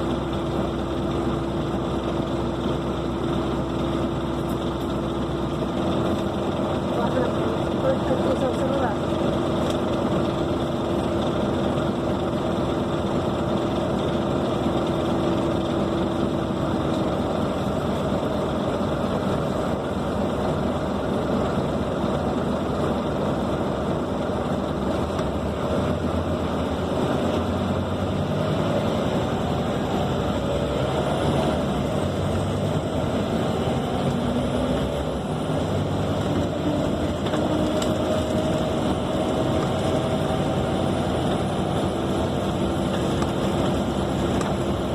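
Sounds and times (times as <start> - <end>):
bus engine from inside: 0.0 - 44.9.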